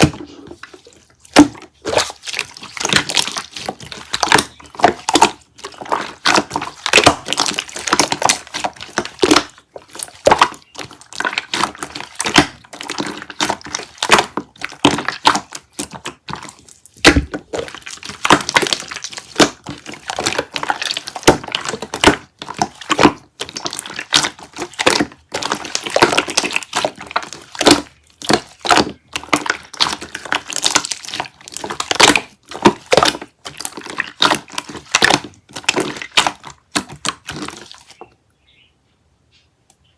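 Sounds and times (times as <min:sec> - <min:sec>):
slime squished by hand: 0:00.0 - 0:38.0.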